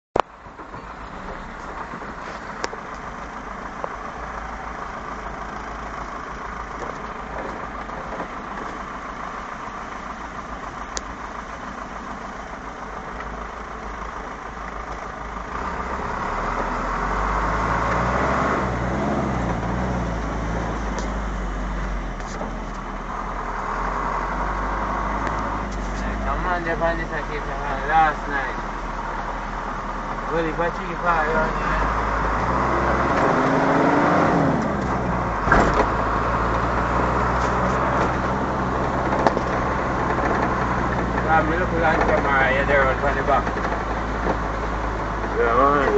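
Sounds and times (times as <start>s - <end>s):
road and wind noise: 0.2s - 45.9s
vehicle engine running: 0.2s - 45.9s.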